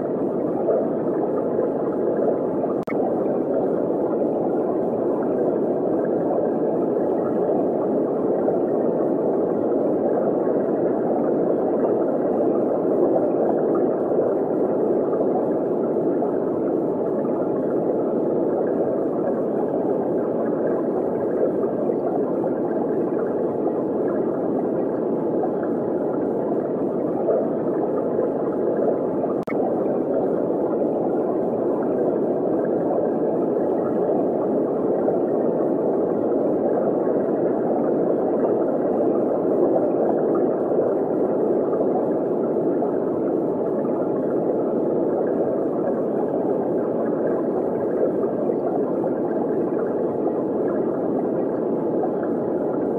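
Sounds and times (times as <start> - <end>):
aquarium water noise: 0.0 - 52.9.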